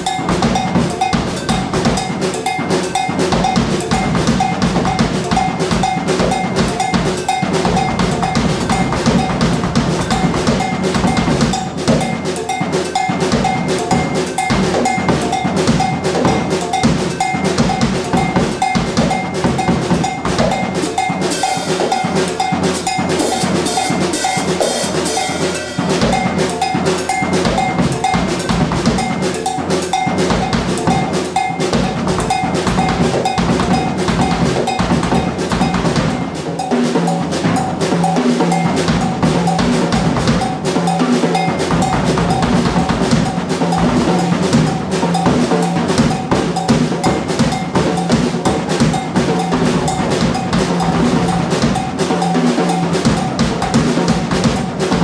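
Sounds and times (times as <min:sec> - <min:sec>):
ringing metallic bell note: 0:00.0 - 0:37.8, 0:38.5 - 0:53.8
bright cymbal wash: 0:00.0 - 0:54.8
drum kit groove: 0:00.0 - 0:55.0.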